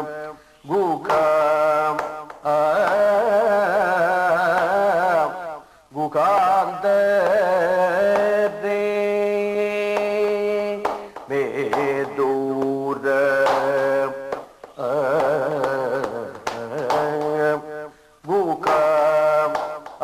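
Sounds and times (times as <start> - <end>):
man singing: 0.0 - 20.0.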